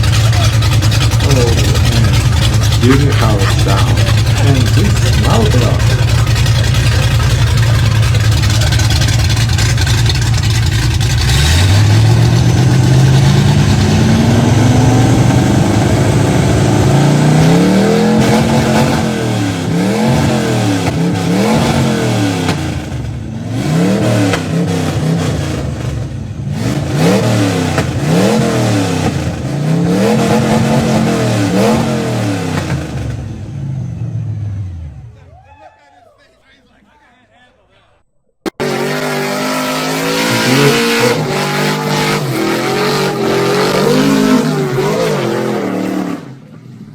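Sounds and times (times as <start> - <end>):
drag car engine revving: 0.0 - 35.2, 38.5 - 46.9.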